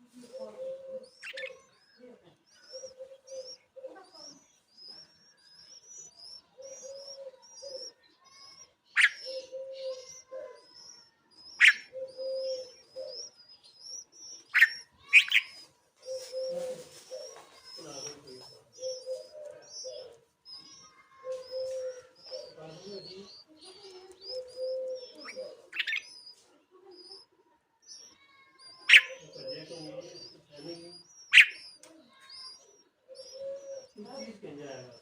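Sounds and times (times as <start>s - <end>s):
birds chirping: 0.0s - 35.0s
dove cooing: 0.0s - 35.0s.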